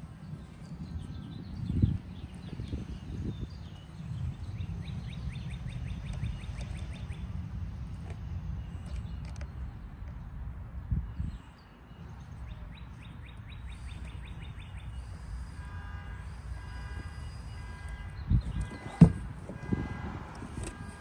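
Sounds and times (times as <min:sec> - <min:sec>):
low rumbling background: 0:00.0 - 0:20.6.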